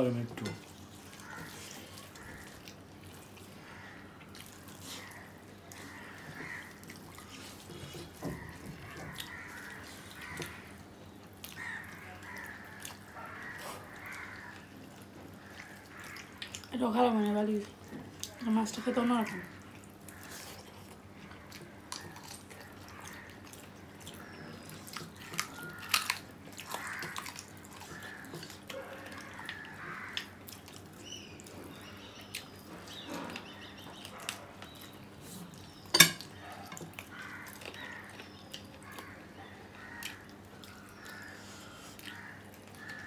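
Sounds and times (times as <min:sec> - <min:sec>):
people chewing and smacking: 0:00.0 - 0:43.0.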